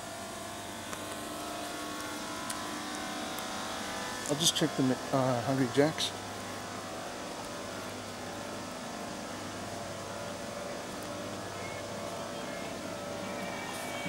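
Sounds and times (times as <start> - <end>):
low hum: 0.0 - 14.0
mechanical drone: 0.0 - 14.0.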